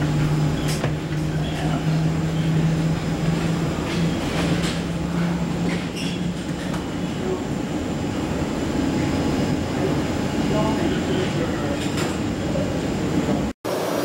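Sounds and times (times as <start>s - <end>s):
low machinery hum: 0.0s - 13.5s.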